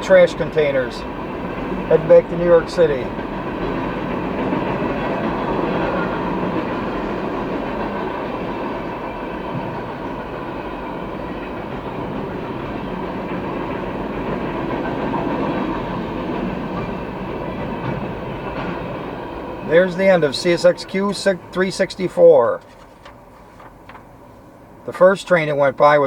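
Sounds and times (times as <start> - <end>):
train wheels rolling on rails: 0.0 - 26.0.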